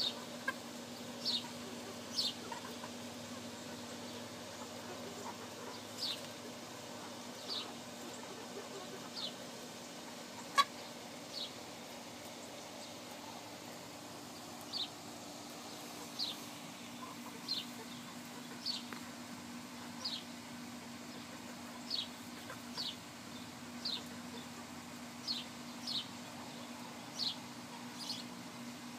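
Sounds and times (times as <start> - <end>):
young hens peeping: 0.0 - 28.9.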